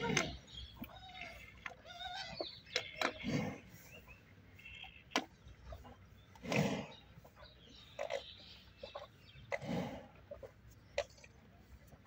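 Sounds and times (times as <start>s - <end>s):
buffalo slurping and gulping: 0.0s - 12.0s.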